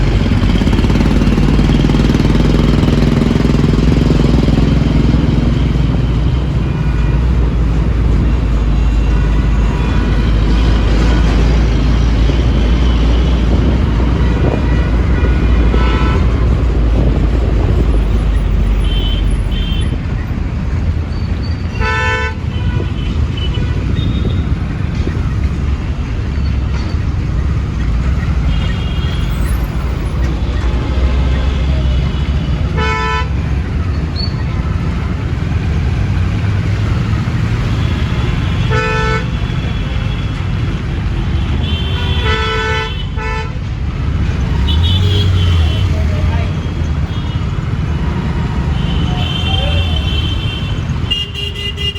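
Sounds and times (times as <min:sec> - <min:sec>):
road traffic rumble: 0:00.0 - 0:51.9
vehicle horns honking: 0:00.1 - 0:20.1, 0:21.2 - 0:24.8, 0:26.6 - 0:51.9.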